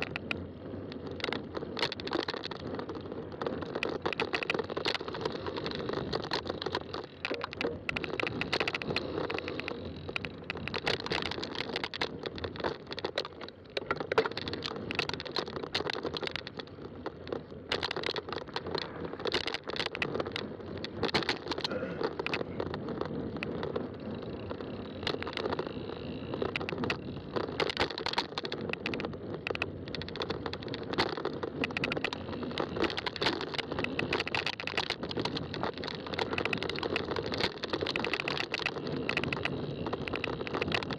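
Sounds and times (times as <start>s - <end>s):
bike tyre and drivetrain noise: 0.0s - 40.9s
rattling clicks: 0.0s - 40.9s.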